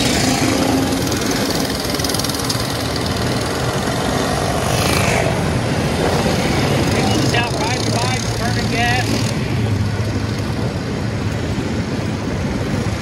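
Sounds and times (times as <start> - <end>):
vehicle engine running: 0.0 - 10.6
constant rushing noise: 0.0 - 13.0.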